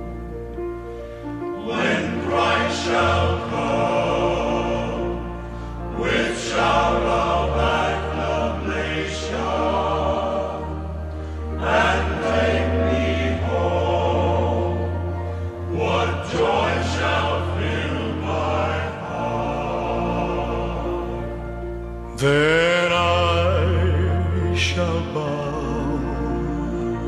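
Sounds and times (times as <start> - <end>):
choir singing: 1.3 - 27.0.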